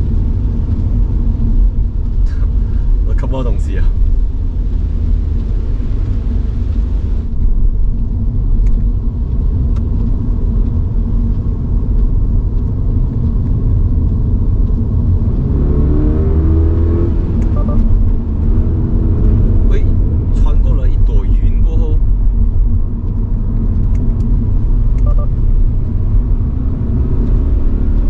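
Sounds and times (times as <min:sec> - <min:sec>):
car engine accelerating: 0:00.0 - 0:28.0
tyre noise on wet road: 0:00.0 - 0:28.0.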